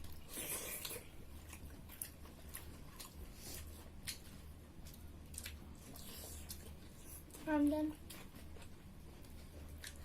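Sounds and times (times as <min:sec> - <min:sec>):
chewing clicks and lip smacks: 0:00.0 - 0:07.4, 0:08.0 - 0:10.0.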